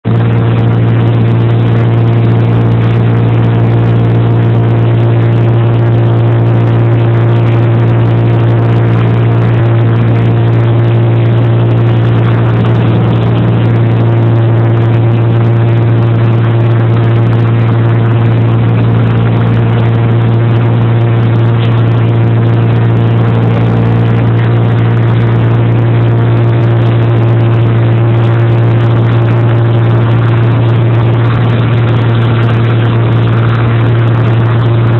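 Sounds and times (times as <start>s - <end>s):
engine humming steadily: 0.0s - 34.9s.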